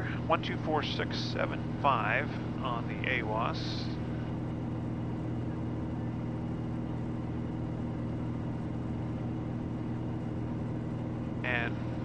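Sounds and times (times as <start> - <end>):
propeller plane engine drone in cabin: 0.0 - 12.0.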